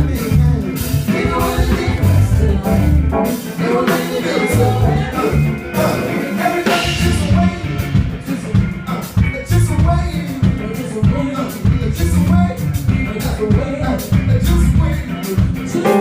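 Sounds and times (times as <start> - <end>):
live band music: 0.0 - 16.0.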